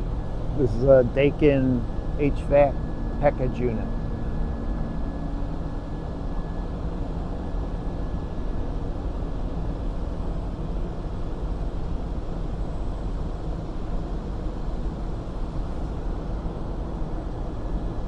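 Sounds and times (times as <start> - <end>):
rooftop air conditioner rushing: 0.0 - 18.0.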